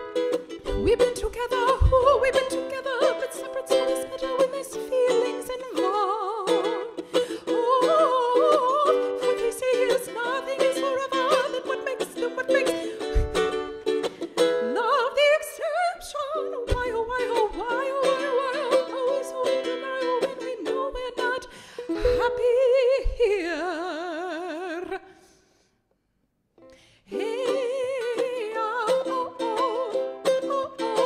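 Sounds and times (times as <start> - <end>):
ukulele strumming: 0.0 - 24.9, 27.1 - 31.0
woman singing: 0.6 - 13.7, 14.4 - 25.1, 27.1 - 31.0.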